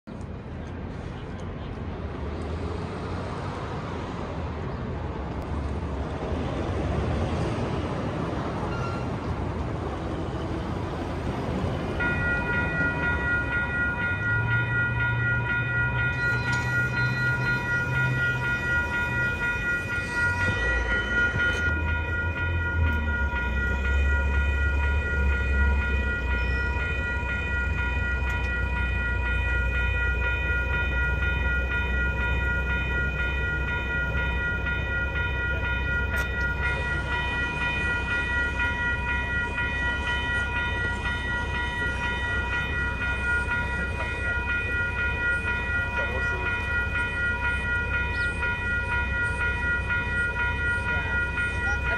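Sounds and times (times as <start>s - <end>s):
railroad crossing bell ringing: 7.2s - 51.9s.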